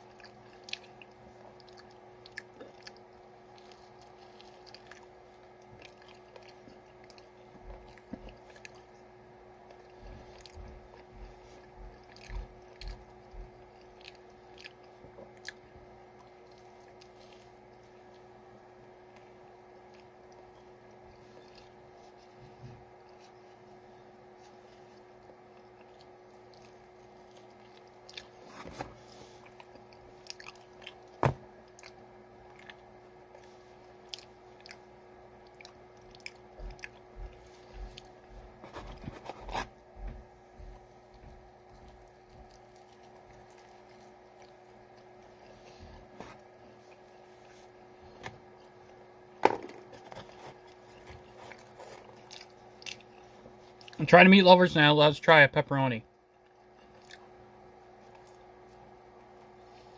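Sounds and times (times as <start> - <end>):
chewing and biting pizza: 0.0 - 54.0, 56.1 - 59.9
faint steady hum: 0.0 - 59.9.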